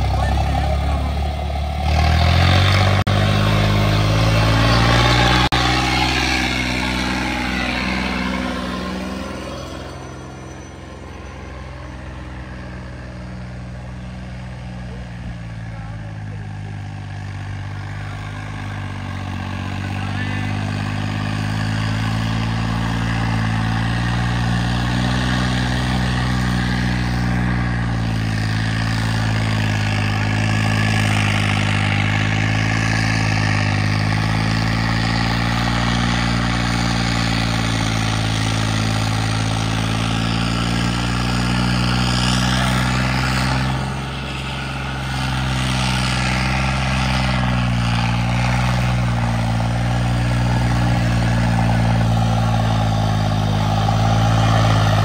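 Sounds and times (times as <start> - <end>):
diesel tractor engine droning: 0.0 - 55.0.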